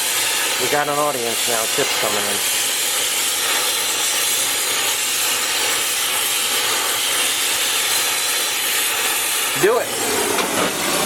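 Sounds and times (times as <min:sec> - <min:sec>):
gas burner hissing: 0:00.0 - 0:11.0.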